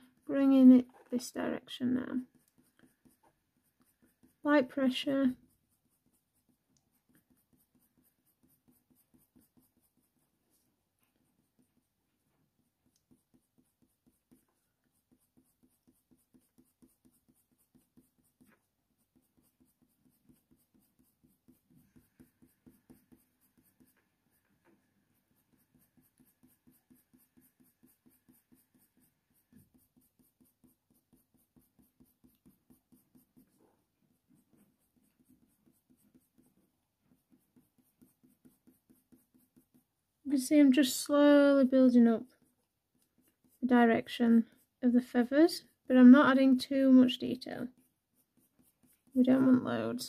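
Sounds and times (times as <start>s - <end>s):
pencil scratching on paper: 0.0s - 50.0s.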